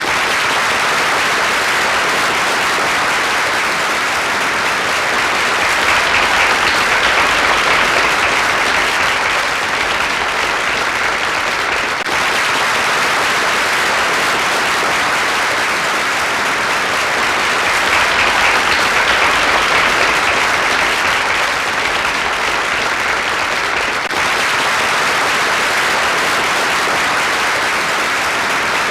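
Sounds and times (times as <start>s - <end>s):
crowd applauding: 0.0s - 28.9s.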